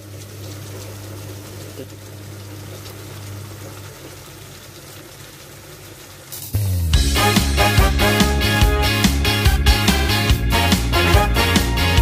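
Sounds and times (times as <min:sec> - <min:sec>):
sauce bubbling and sizzling: 0:00.0 - 0:12.0.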